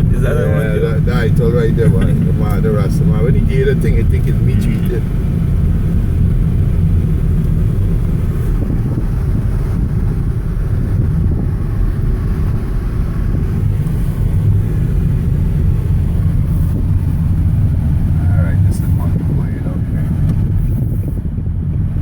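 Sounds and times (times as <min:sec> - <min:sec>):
car rumbling on the move: 0:00.0 - 0:22.0
wind noise: 0:00.0 - 0:22.0.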